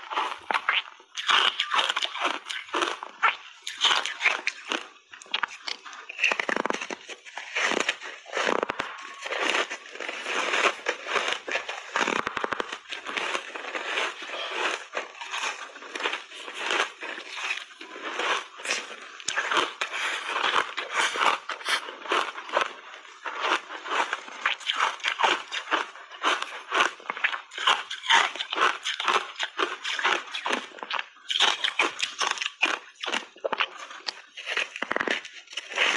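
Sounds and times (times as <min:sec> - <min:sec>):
crunchy ice being chewed: 0:00.0 - 0:35.9.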